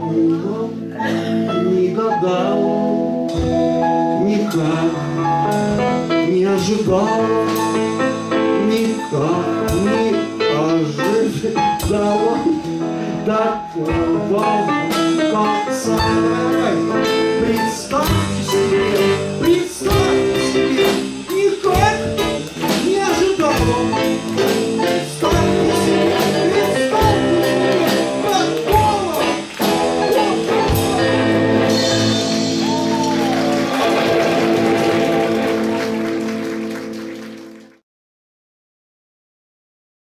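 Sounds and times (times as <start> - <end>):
man singing: 0.0 - 35.7
electric guitar: 0.0 - 37.8
drum kit beats: 3.2 - 37.6.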